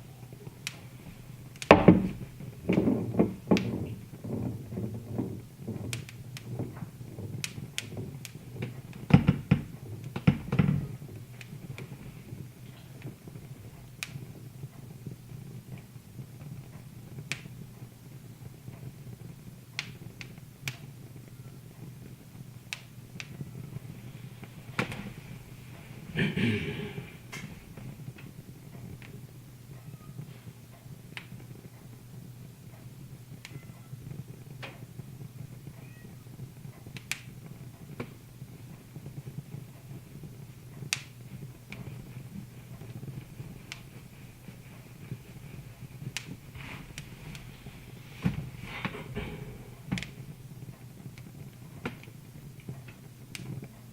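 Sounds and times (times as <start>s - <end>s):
steady low hum: 0.0s - 53.9s
wood fire crackling: 0.0s - 53.9s.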